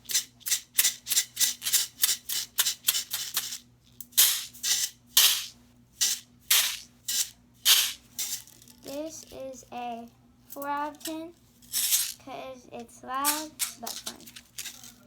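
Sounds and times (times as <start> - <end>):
pin art toy pins rattling: 0.1 - 3.6, 4.2 - 9.4, 10.5 - 12.2, 13.2 - 15.0.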